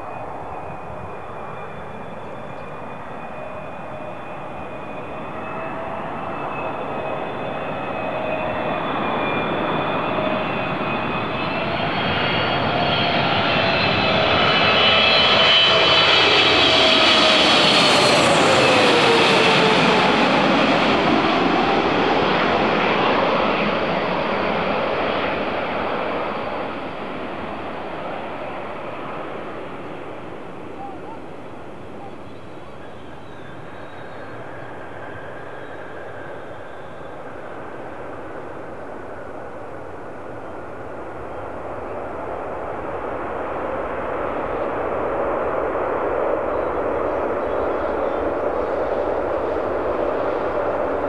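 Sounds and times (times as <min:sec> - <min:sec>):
jet engine whine: 0:00.0 - 0:51.0.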